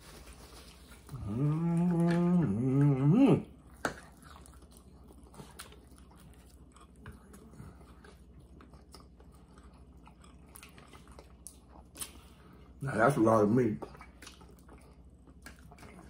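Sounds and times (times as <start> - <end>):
chewing and biting ribs: 0.0 - 16.0.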